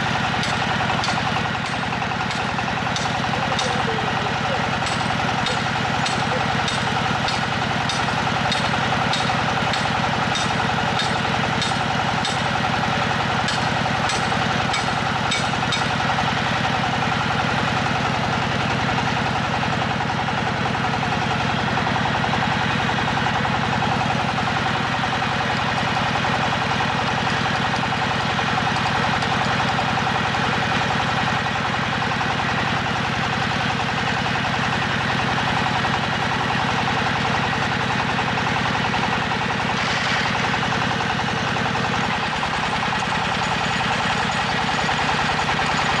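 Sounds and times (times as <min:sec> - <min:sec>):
drilling rig engine running: 0:00.0 - 0:46.0.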